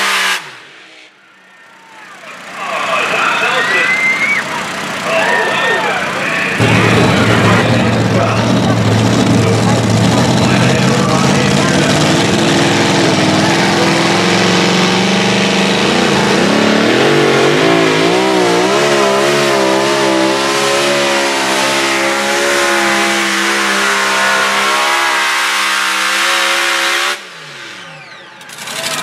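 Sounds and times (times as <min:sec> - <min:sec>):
truck engine running flat out: 0:01.4 - 0:29.0.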